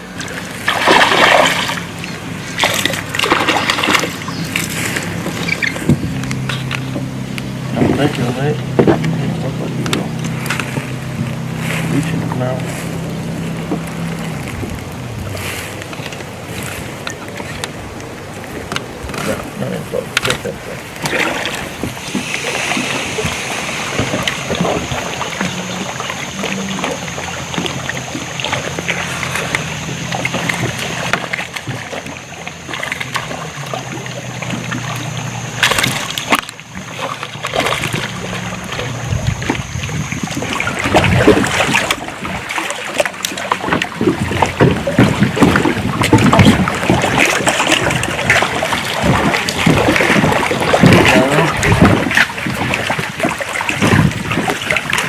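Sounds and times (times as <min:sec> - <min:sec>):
steady low hum: 0:00.0 - 0:55.0
water splashing against kayak: 0:00.0 - 0:55.0.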